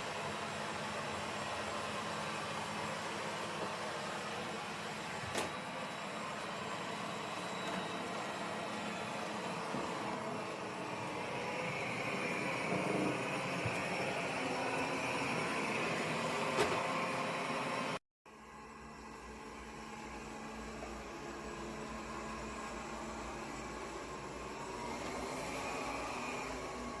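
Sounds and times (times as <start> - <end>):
robot vacuum cleaner whirring: 0.0 - 18.0, 20.0 - 27.0.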